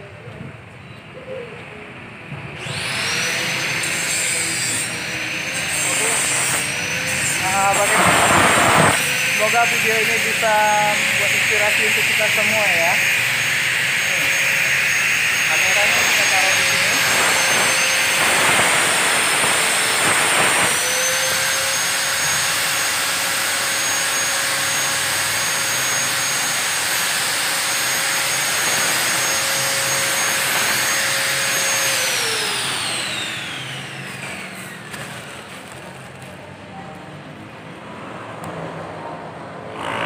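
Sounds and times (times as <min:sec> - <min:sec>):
electric motor whining: 0:02.5 - 0:36.3.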